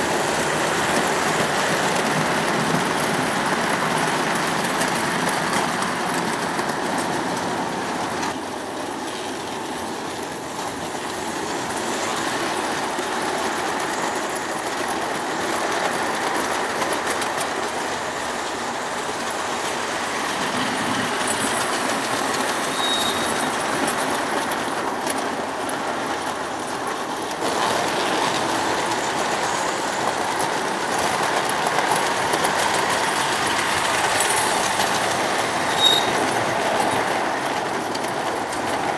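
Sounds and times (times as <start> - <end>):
model train wheels rolling on rails: 0.0 - 38.9.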